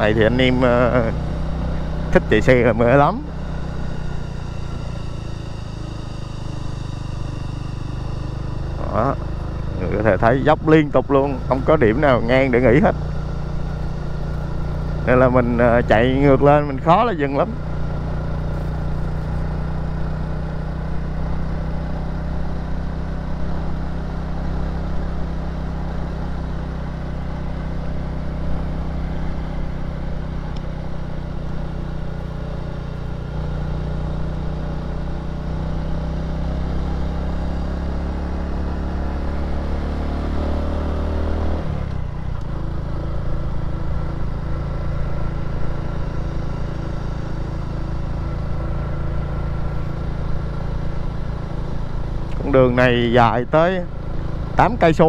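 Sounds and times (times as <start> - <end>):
scooter engine climbing hill: 0.0 - 55.0.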